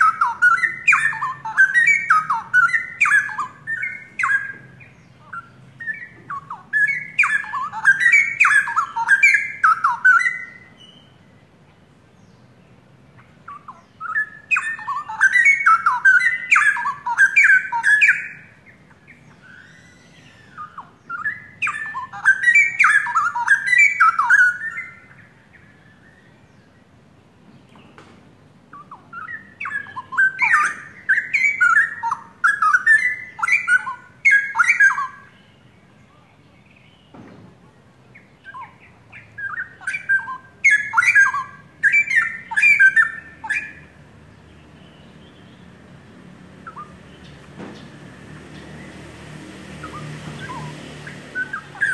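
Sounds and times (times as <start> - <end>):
bird singing whistled phrases: 0.0 - 11.3, 13.2 - 26.5, 28.7 - 37.2, 38.1 - 44.0, 46.6 - 47.4, 49.8 - 51.9.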